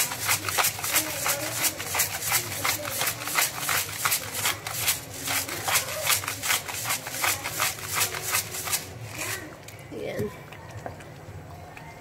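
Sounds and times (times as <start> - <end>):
spatula stirring porridge in a pot: 0.0 - 9.7.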